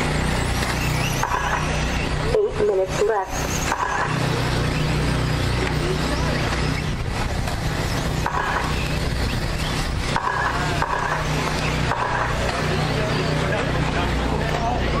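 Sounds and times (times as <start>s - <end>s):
rc truck motor whines: 0.0s - 2.4s, 3.0s - 13.5s
steady low hum: 0.0s - 15.0s.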